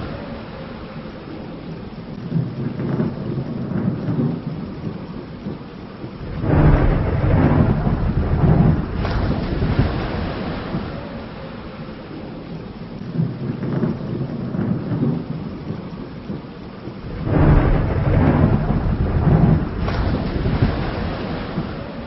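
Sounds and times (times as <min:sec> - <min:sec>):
steady rain: 0:00.0 - 0:22.0
thunder rumbling: 0:00.0 - 0:22.0.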